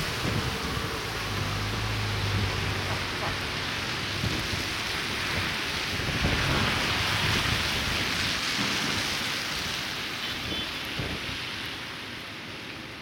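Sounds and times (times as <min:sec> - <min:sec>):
wind gusts rumbling on microphone: 0:00.0 - 0:12.3
blizzard wind: 0:00.0 - 0:13.0
cars hissing on snowy street: 0:00.0 - 0:13.0.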